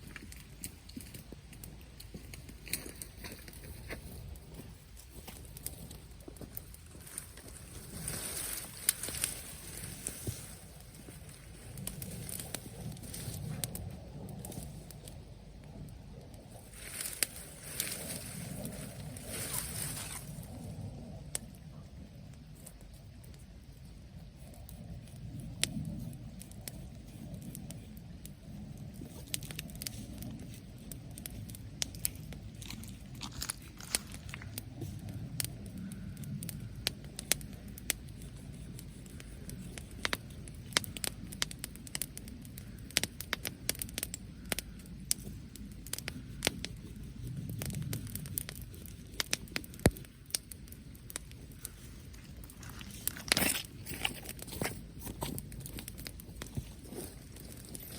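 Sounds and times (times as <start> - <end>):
bonfire crackling: 0.0 - 57.9
fire popping: 0.0 - 57.9.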